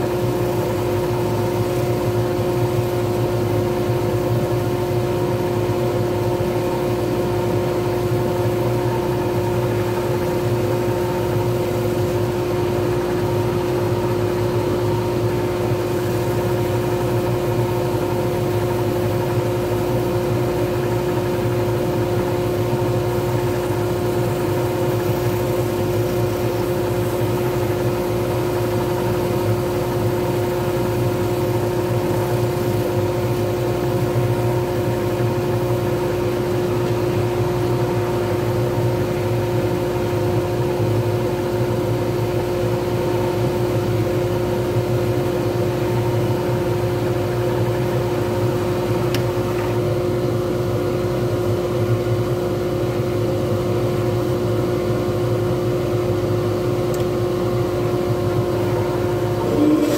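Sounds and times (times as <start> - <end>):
wood lathe motor hum and whine: 0.0 - 59.9.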